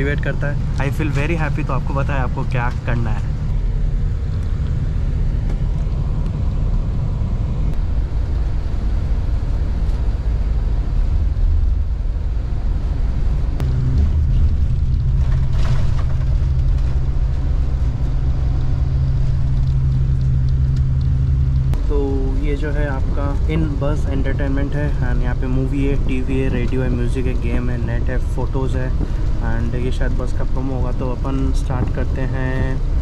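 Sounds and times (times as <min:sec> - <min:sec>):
bus engine and tyres rumbling: 0:00.0 - 0:33.0.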